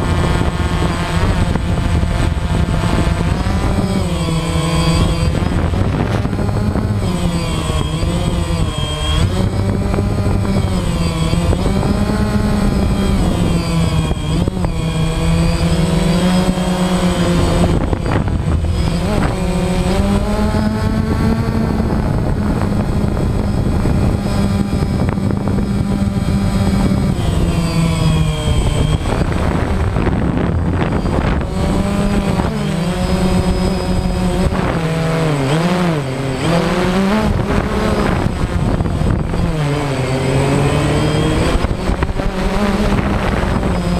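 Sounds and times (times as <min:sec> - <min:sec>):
drone propellers buzzing: 0:00.0 - 0:43.9.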